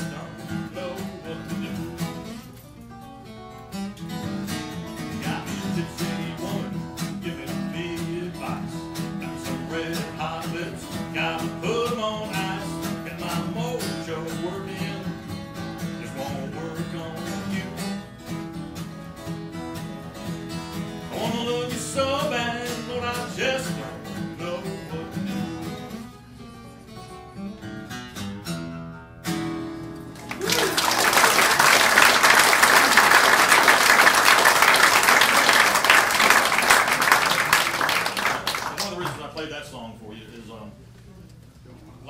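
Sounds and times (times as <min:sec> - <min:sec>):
blues guitar playing: 0:00.0 - 0:38.5.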